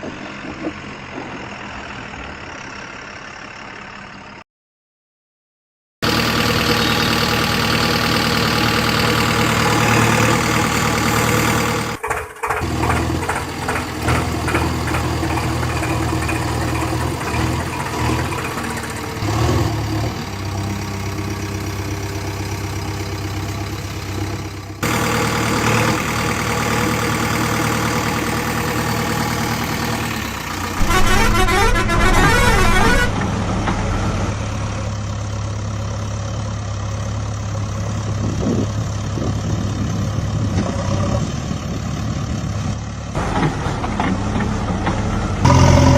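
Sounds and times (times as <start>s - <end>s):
heavy vehicle engines running: 0.0s - 4.4s, 6.0s - 45.9s.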